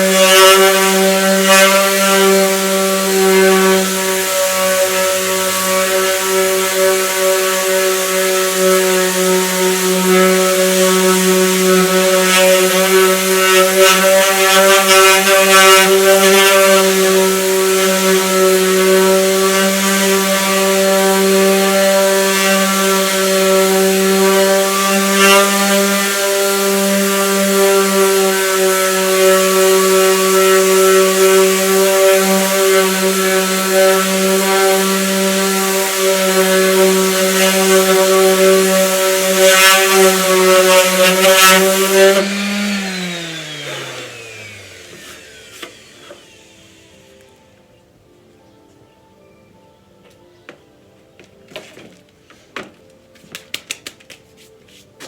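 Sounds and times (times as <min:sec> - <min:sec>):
small electric motor humming: 0:00.0 - 0:47.6.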